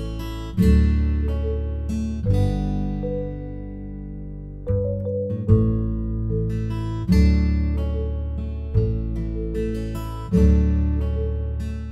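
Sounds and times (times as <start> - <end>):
acoustic guitar strumming chords: 0.0 - 11.9.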